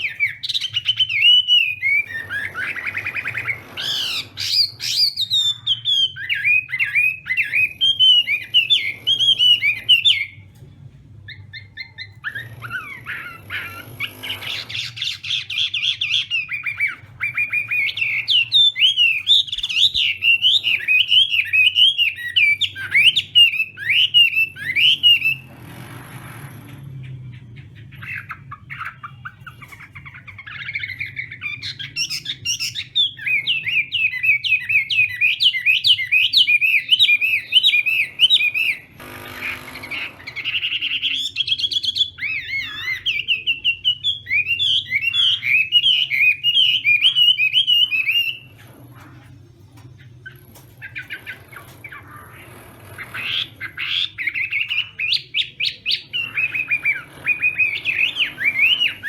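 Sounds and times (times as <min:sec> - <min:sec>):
bird singing warbling notes: 0:00.0 - 0:10.6, 0:11.2 - 0:25.5, 0:26.9 - 0:59.0.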